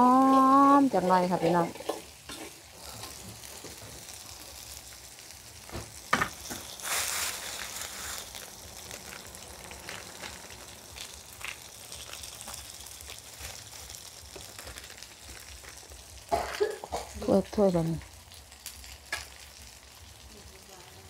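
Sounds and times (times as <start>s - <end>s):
paste sizzling in hot oil: 0.0s - 21.0s.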